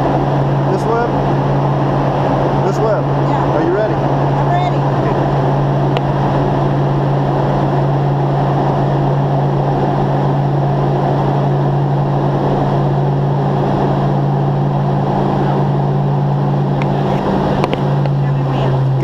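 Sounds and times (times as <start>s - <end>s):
jet cabin engine drone: 0.0s - 19.0s.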